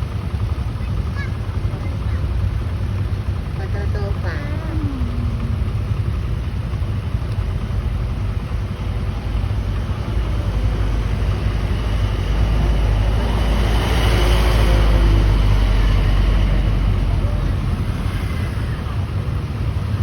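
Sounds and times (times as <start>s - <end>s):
bus engine and tyres rumbling: 0.0s - 20.0s.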